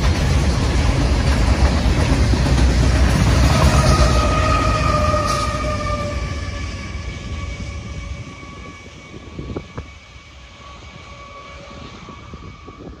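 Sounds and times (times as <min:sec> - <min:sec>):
locomotive engine rumble and whine: 0:00.0 - 0:13.0.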